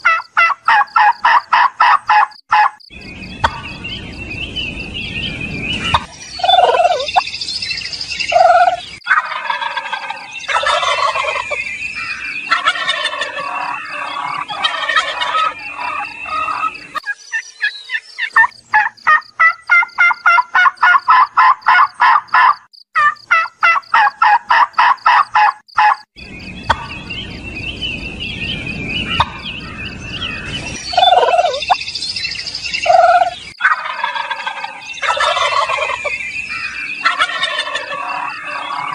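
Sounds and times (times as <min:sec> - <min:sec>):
turkeys gobbling and calling: 0:00.0 - 0:02.8, 0:03.4 - 0:04.0, 0:05.8 - 0:07.2, 0:08.3 - 0:26.1, 0:26.7 - 0:27.0, 0:29.0 - 0:31.8, 0:32.8 - 0:38.9
small birds chirping faintly: 0:00.0 - 0:38.9.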